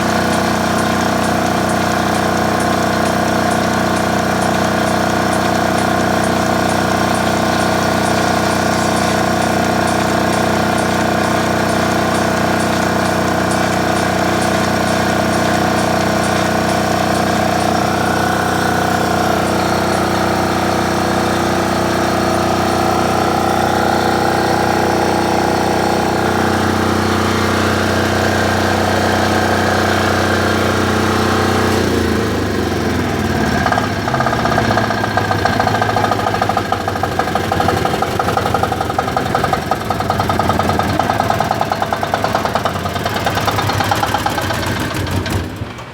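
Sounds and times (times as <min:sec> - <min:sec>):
diesel generator engine running: 0:00.0 - 0:45.9.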